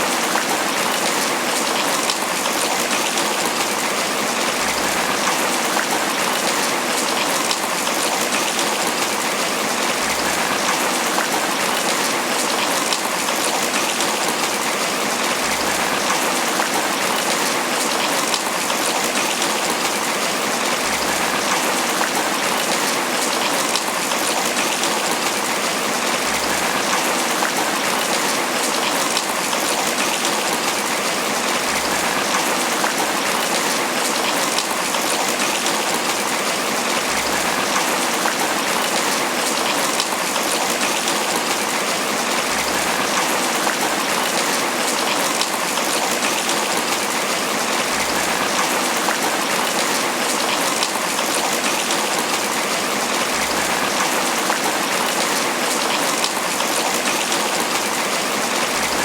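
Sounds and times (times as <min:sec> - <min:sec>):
heavy rain falling on leaves: 0:00.0 - 0:59.0.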